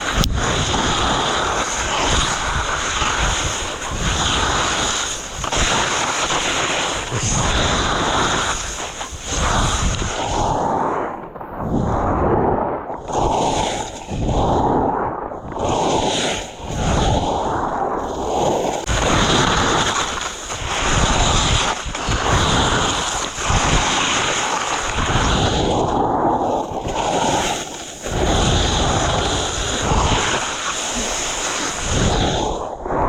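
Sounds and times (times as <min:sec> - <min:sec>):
skis scraping through wet snow: 0:00.0 - 0:11.4, 0:13.0 - 0:14.5, 0:15.5 - 0:32.6
wind rushing over microphone: 0:00.0 - 0:33.0.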